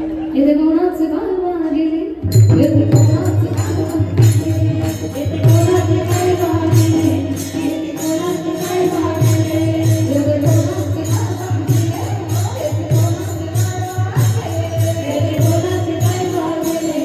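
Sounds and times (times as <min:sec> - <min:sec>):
hand cymbals struck in rhythm: 0:02.2 - 0:17.0.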